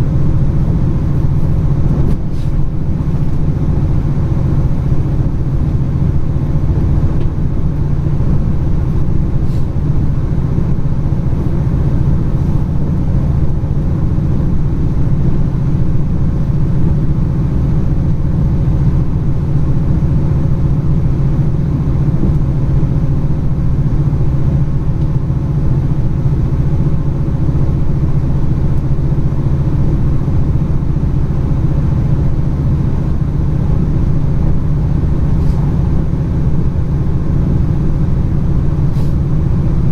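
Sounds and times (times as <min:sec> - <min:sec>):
constant low hum: 0:00.0 - 0:39.9
train running rumble: 0:00.0 - 0:39.9.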